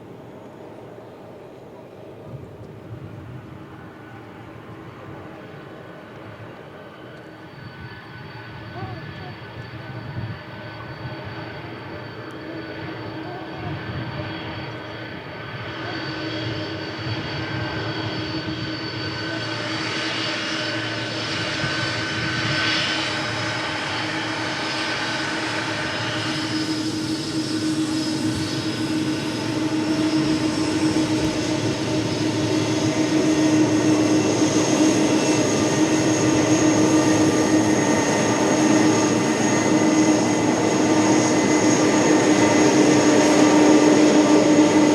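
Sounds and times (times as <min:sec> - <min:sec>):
jet engines of landing plane: 0:00.0 - 0:44.9
steady engine whine: 0:00.0 - 0:44.9.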